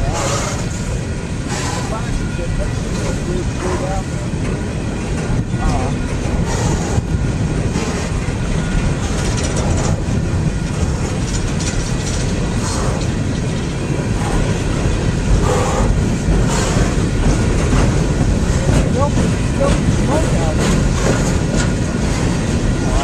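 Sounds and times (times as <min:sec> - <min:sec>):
train wheels rumbling on rail: 0:00.0 - 0:23.0
wheels clicking over rail joints: 0:00.0 - 0:23.0.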